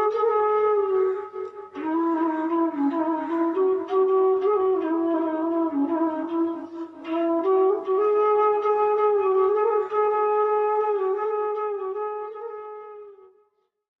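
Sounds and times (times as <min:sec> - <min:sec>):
slow flute melody: 0:00.0 - 0:13.5.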